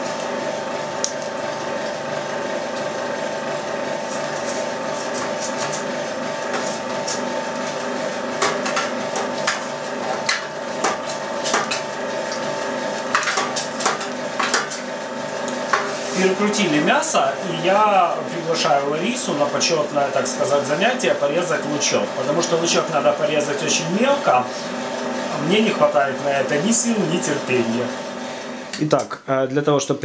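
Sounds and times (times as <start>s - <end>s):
meat grinder motor hum: 0.0s - 29.0s.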